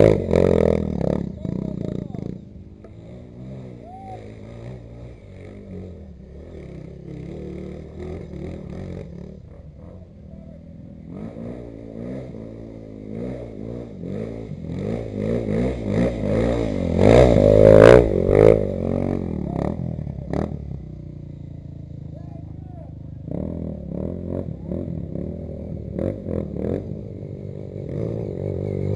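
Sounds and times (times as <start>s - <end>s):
off-road vehicle engine revving: 0.0s - 28.9s.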